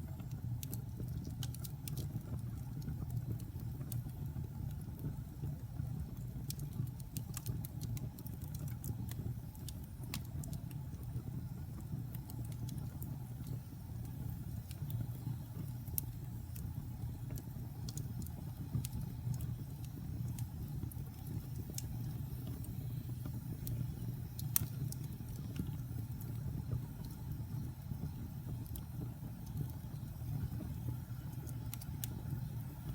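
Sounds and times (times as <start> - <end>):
fire crackles and pops: 0.0 - 32.9
low rumble of flames: 0.0 - 32.9.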